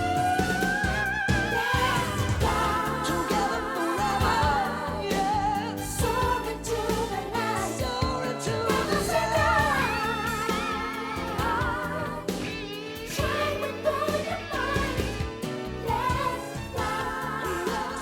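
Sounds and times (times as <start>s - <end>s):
pop song with sung vocals: 0.0s - 18.0s.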